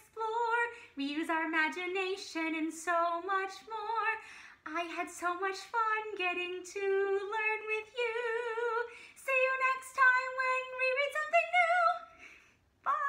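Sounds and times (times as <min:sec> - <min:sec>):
woman singing unaccompanied: 0:00.0 - 0:12.1.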